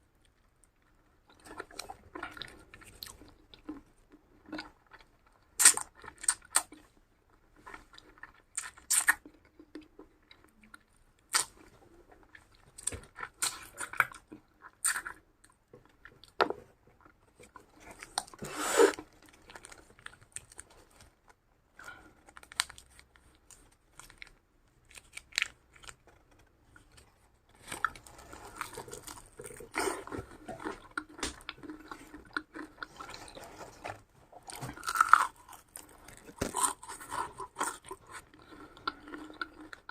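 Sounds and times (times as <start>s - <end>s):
person chewing crunchy food: 0.8s - 7.0s, 7.6s - 16.4s, 21.8s - 39.9s.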